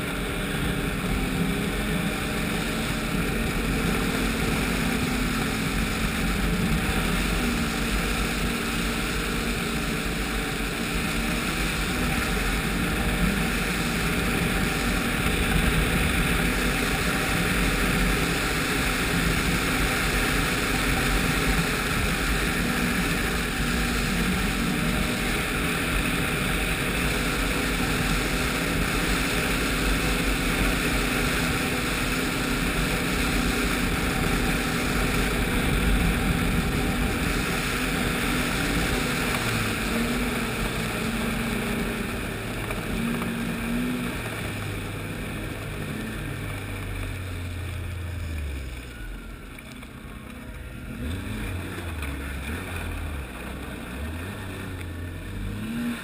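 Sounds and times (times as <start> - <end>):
rush of wind and snow: 0.0 - 56.0
snowmobile engine running: 0.0 - 56.0.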